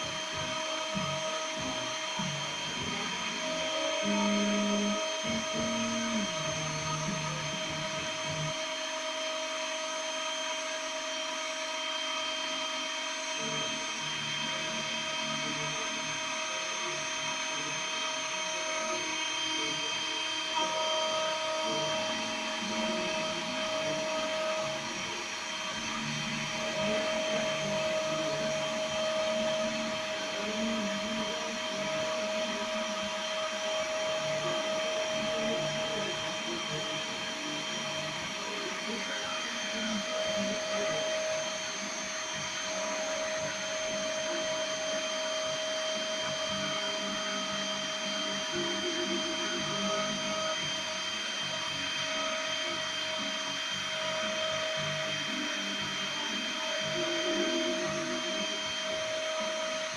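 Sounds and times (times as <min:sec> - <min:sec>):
spindle whine: 0:00.0 - 0:59.9
stepper motor tones: 0:00.0 - 0:59.9.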